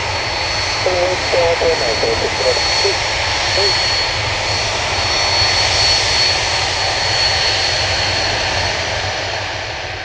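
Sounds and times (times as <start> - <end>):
airliner engines rushing and whining: 0.8 - 10.0.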